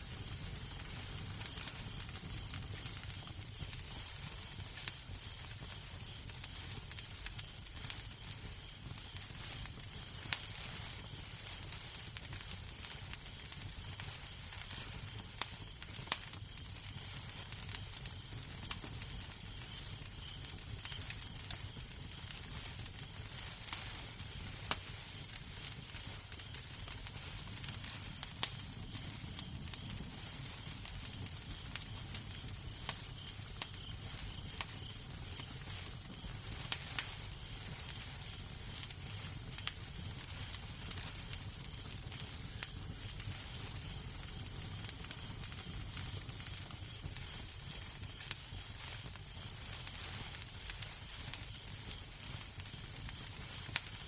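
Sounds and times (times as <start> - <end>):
fire popping and snapping: 0.0 - 54.0
wood fire hiss and rumble: 0.0 - 54.0.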